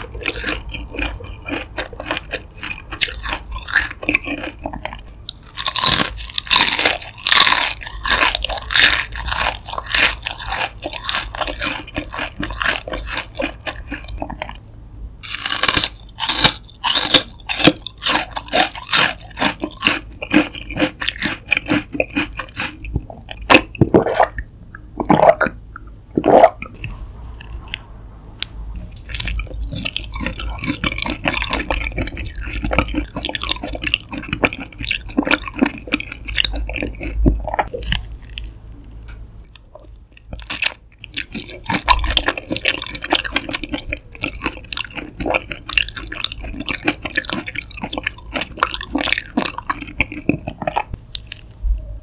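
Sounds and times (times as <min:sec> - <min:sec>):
crunching and chewing fried food: 0:00.0 - 0:14.6, 0:15.2 - 0:24.4, 0:26.2 - 0:51.6.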